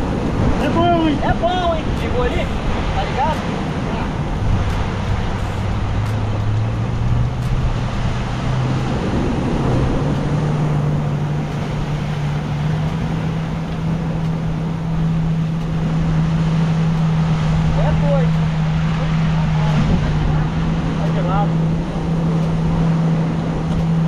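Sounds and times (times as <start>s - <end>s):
broad rushing noise: 0.0s - 24.0s
engine hum: 0.0s - 24.0s.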